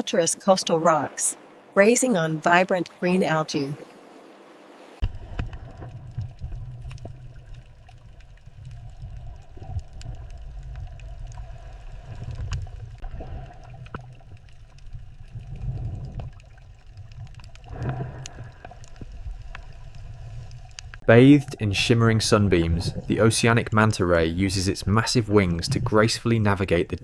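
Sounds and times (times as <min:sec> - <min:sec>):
moving water rumbling: 0:00.0 - 0:27.0.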